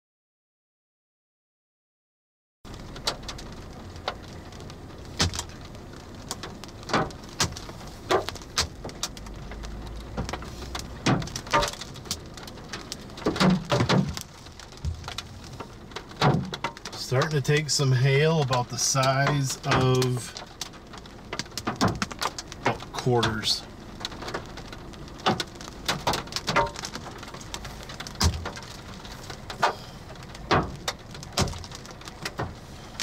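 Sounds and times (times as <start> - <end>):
hailstones knocking on car: 2.7 - 33.0
rain pattering on car: 2.7 - 33.0.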